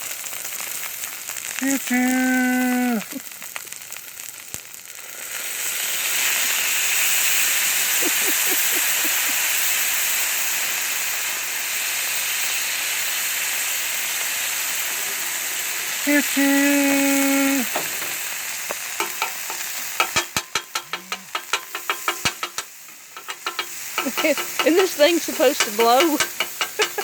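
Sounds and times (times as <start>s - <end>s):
food sizzling on a griddle: 0.0s - 27.0s.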